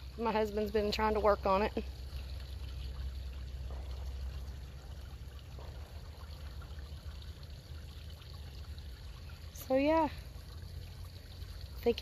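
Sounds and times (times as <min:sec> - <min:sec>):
water trickling over rocks: 0:00.0 - 0:12.0.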